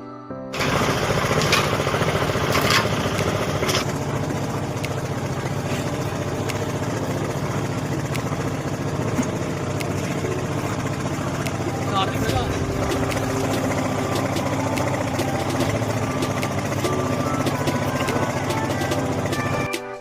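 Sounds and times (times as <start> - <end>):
concrete mixer engine running: 0.5 - 19.8.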